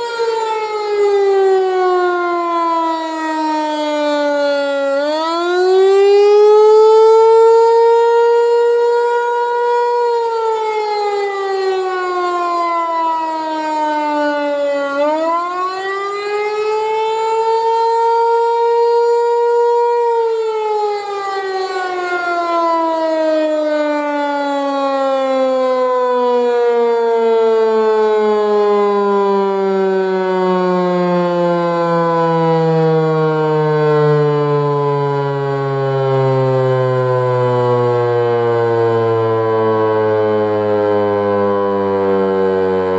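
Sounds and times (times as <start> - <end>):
warning siren rising and falling: 0.0 - 42.9.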